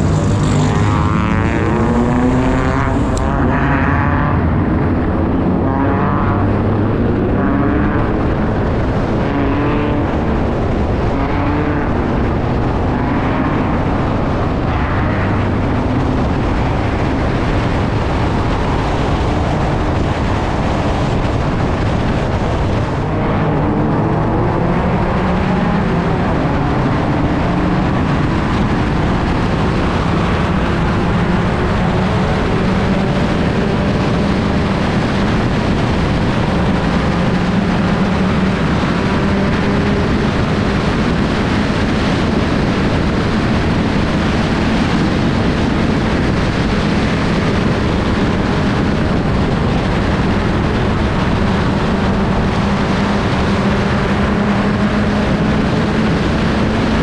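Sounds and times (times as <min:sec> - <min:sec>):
race car engine droning: 0:00.0 - 0:57.0
wind and road noise: 0:00.0 - 0:57.0.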